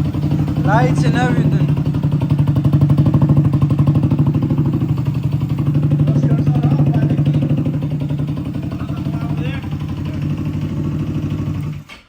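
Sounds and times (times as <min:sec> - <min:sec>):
moped engine running: 0:00.0 - 0:11.9.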